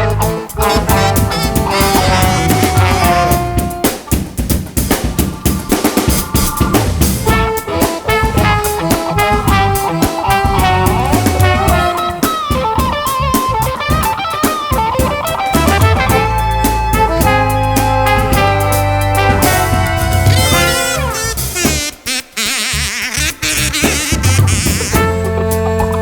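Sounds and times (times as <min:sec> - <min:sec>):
bass and guitar: 0:00.0 - 0:26.0
drum kit beat: 0:00.0 - 0:26.0.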